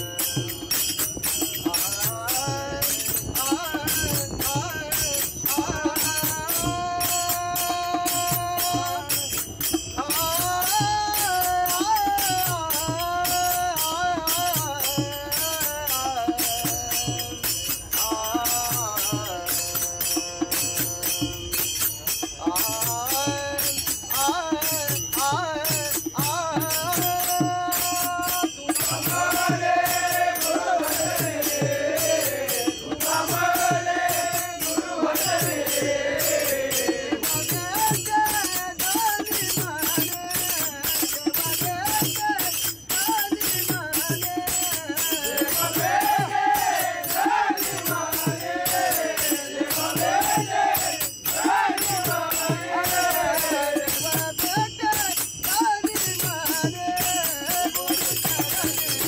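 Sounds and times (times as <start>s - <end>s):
brass hand cymbals: 0.0s - 59.0s
men singing together: 0.0s - 59.0s.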